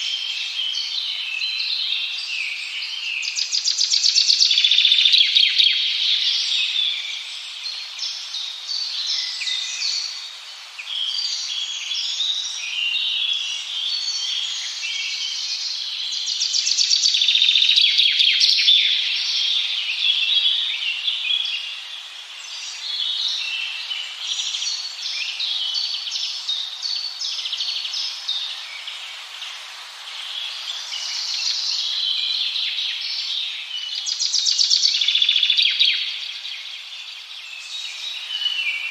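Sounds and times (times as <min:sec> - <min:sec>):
chorus of birds chirping: 0:00.0 - 0:38.9.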